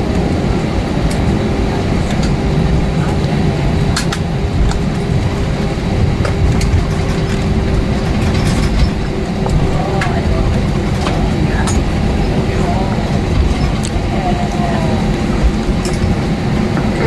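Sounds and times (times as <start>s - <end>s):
jet engines humming: 0.0s - 17.0s
wheels rumbling on pavement: 0.0s - 17.0s.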